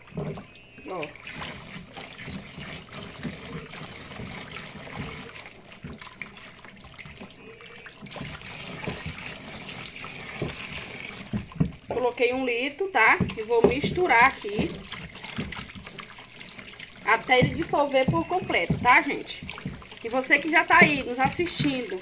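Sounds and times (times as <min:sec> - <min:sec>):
hot water pouring into basin: 0:00.0 - 0:22.0.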